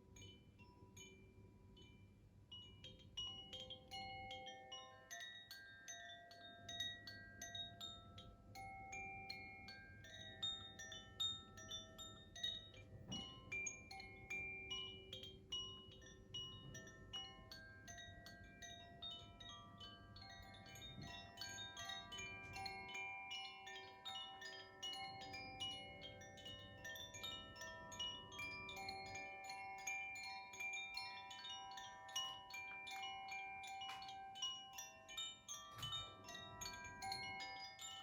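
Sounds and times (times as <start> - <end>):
bamboo wind chime tinkling: 0.0 - 38.0.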